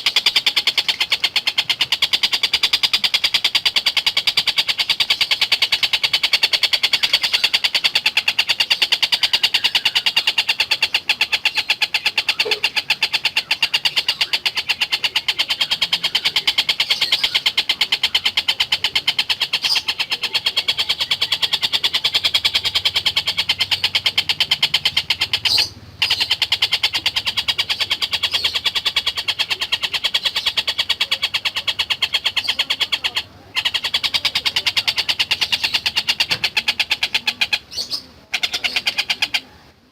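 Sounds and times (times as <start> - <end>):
kingfisher chattering trill: 0.0 - 39.9.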